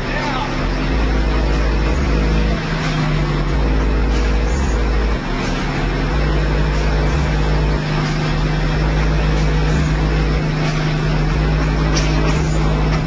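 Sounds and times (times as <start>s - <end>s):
deep subwoofer bass notes: 0.0s - 13.0s
low bass drone: 0.0s - 13.0s.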